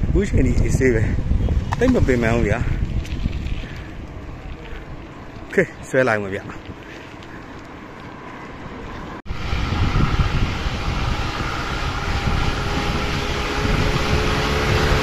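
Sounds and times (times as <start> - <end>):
rushing road noise: 0.0 - 15.0.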